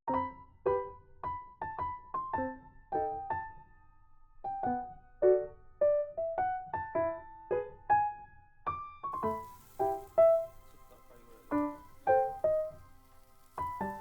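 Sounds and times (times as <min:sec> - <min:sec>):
gentle piano-like melody: 0:00.1 - 0:14.0.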